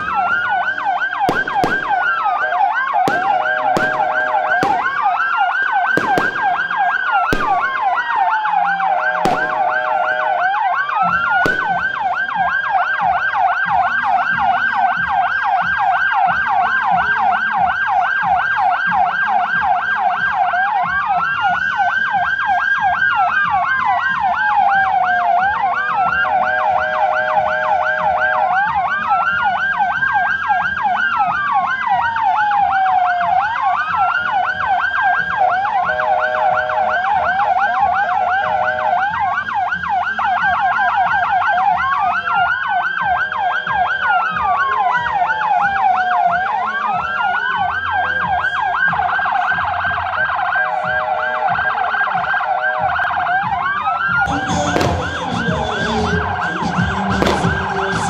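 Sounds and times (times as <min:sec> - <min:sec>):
short steady siren tones: 0:00.0 - 0:16.3, 0:21.1 - 0:30.0, 0:32.6 - 0:46.4, 0:48.0 - 0:58.0
siren wails: 0:00.0 - 0:58.0
siren yelp: 0:00.0 - 0:58.0.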